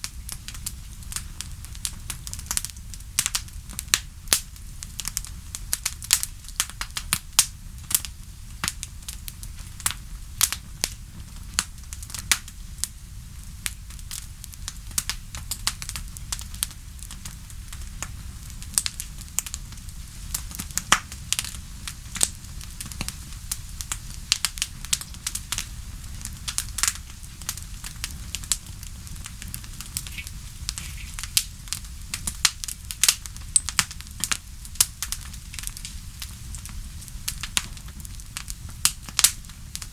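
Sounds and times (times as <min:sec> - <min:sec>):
steady low rumble: 0:00.0 - 0:39.9
wood fire crackling and popping: 0:00.0 - 0:39.9.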